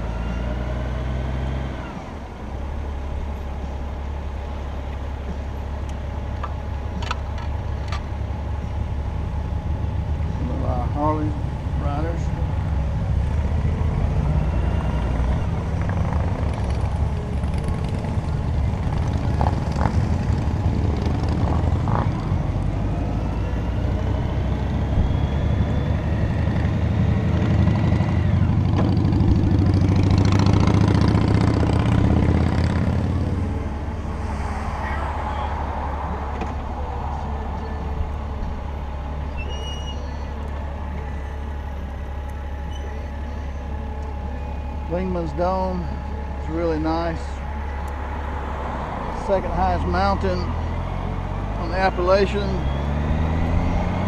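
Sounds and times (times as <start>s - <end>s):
wind: 0.0s - 54.0s
motorcycle engine rumble: 1.8s - 54.0s.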